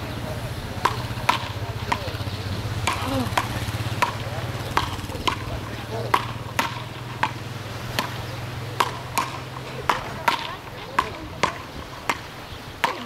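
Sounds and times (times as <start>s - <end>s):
wooden rackets hitting ball: 0.0s - 13.0s.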